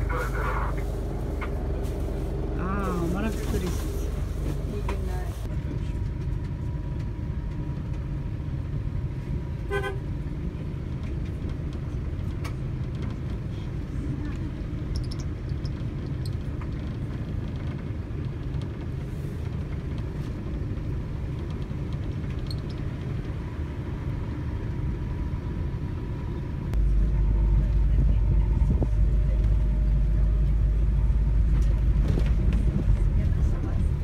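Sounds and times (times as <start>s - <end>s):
minibus engine and road rumble: 0.0s - 34.0s.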